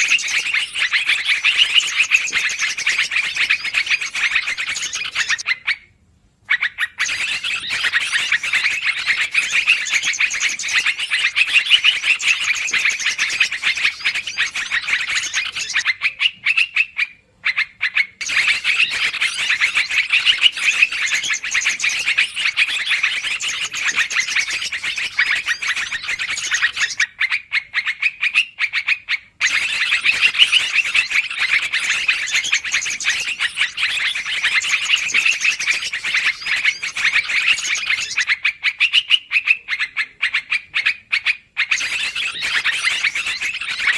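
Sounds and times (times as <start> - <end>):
birds chattering calls: 0.0 - 5.9, 6.5 - 43.9.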